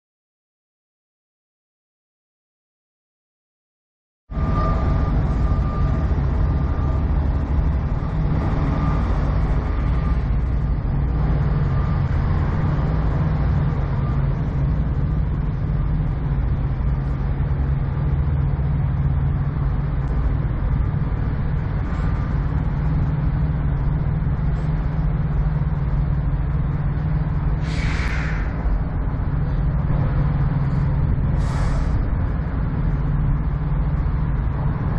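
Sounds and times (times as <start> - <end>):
faint high whine: 4.3 - 34.9
diesel truck engine idling: 4.8 - 34.9.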